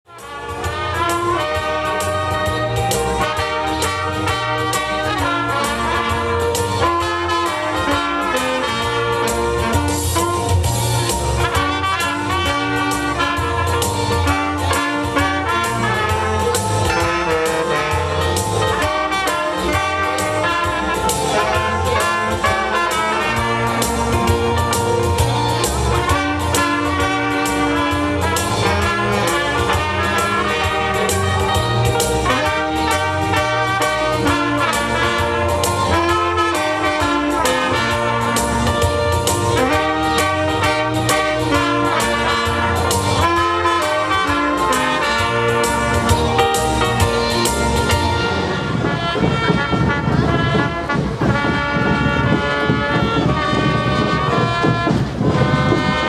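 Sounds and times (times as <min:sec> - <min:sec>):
brass band playing upbeat music: 0:00.0 - 0:56.0.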